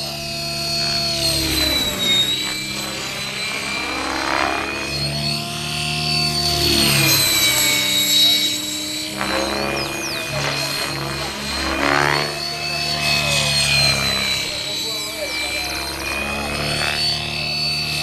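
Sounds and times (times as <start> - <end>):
model helicopter engine whine: 0.0 - 18.0.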